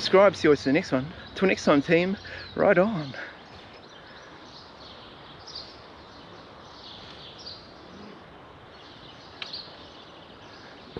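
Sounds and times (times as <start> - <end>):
birds calling: 0.0 - 10.9
steady background hiss: 0.0 - 10.9.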